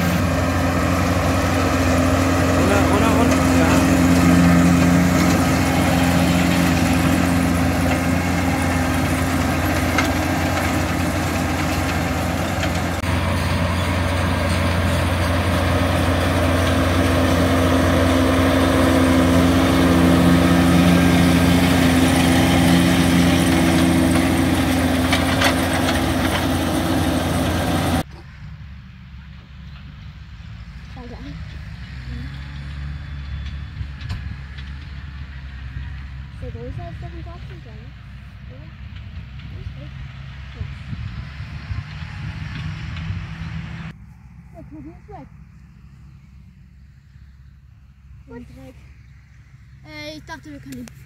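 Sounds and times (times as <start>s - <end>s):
tractor and baler drone: 0.0s - 51.0s.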